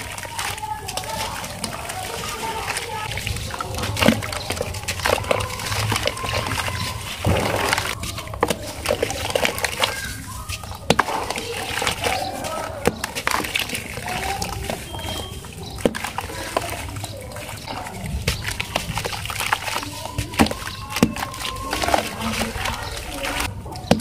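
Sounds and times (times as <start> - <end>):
grit splashing into water: 0.0 - 24.0
wet cement crumbling: 0.0 - 24.0.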